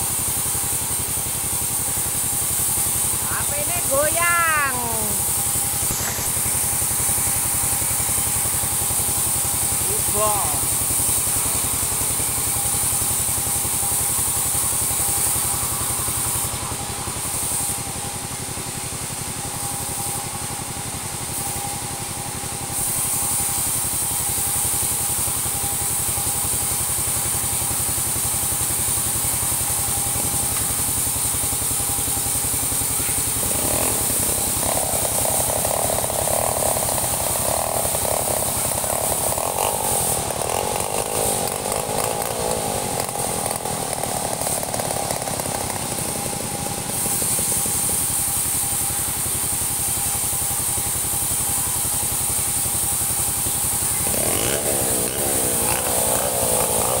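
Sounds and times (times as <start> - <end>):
chainsaw cutting timber: 0.0 - 57.0
chainsaw idling and revving: 0.0 - 57.0.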